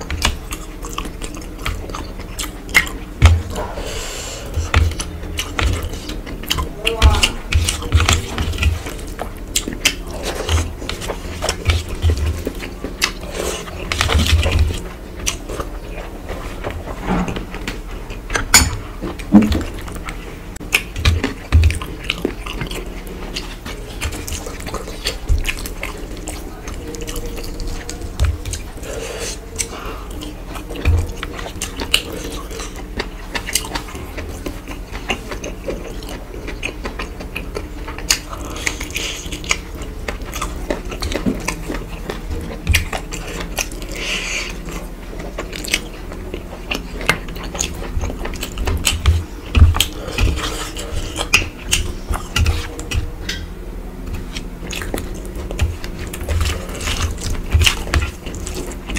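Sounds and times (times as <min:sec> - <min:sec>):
person chewing food: 0:00.0 - 0:58.9
steady low hum: 0:00.0 - 0:58.9.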